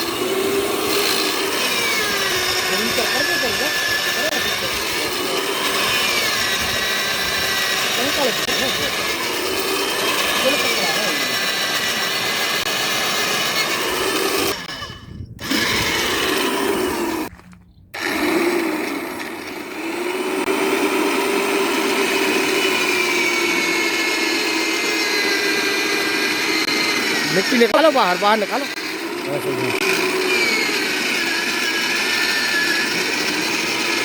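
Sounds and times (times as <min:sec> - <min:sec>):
drill boring into soil: 0:00.0 - 0:17.3, 0:18.0 - 0:34.0.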